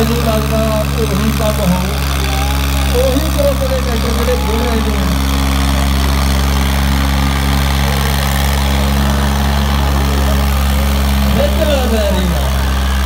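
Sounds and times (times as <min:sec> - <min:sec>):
tractor diesel engines running hard: 0:00.0 - 0:13.0.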